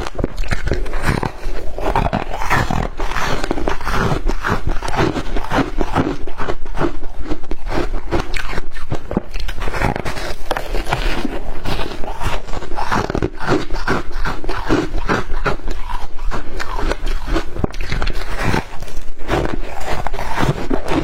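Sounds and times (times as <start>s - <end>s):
person crunching ice: 0.0s - 21.0s.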